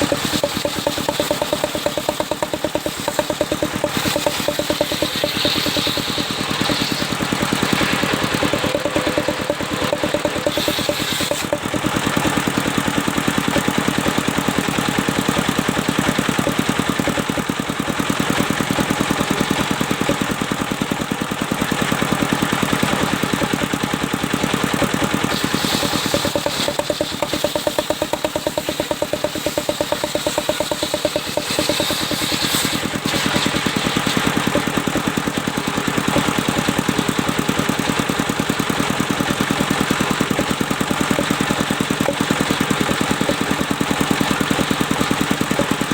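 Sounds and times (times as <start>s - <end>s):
sawmill engine running: 0.0s - 45.9s.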